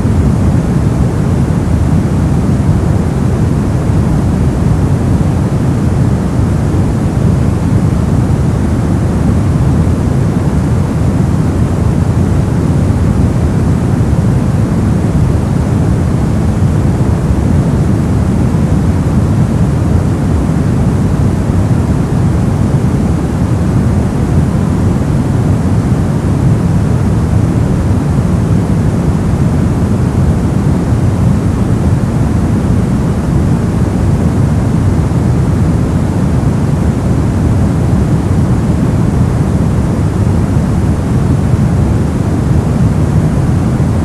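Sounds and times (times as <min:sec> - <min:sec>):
deep rumbling brown noise: 0:00.0 - 0:44.0.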